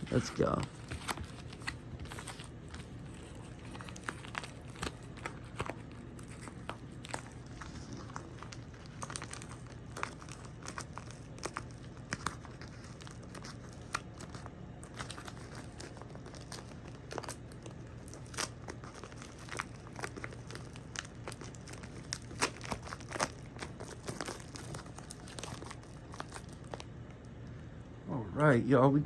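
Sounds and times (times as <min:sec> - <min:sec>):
packaging crinkling and tearing: 0:00.0 - 0:27.3
faint low hum: 0:00.0 - 0:29.0.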